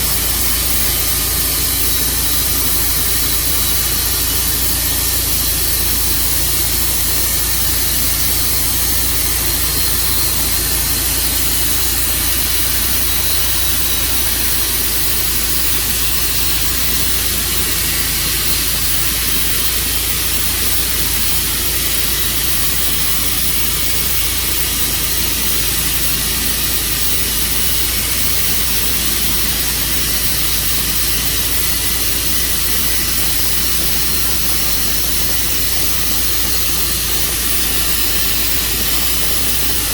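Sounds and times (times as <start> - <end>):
engine running steadily: 0.0 - 39.9
loud hiss: 0.0 - 39.9.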